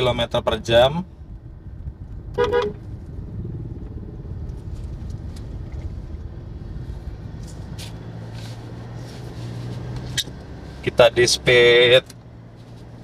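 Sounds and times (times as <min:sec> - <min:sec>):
car cabin road rumble: 0:00.0 - 0:13.0
low engine hum: 0:00.0 - 0:13.0.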